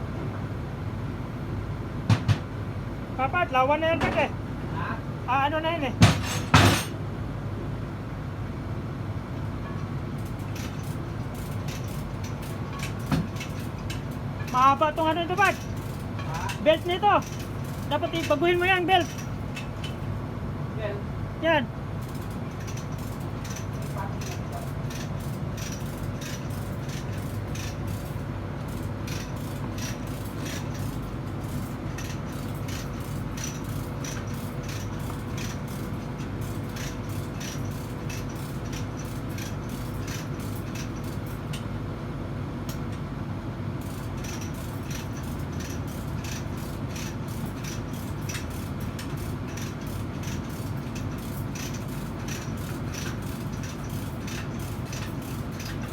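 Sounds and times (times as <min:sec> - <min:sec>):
low machinery hum: 0:00.0 - 0:55.9.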